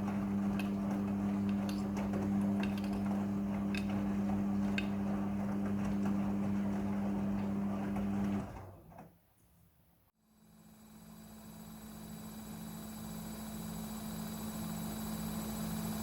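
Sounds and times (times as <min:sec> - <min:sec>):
washing machine humming: 0:00.0 - 0:09.2, 0:10.4 - 0:16.0.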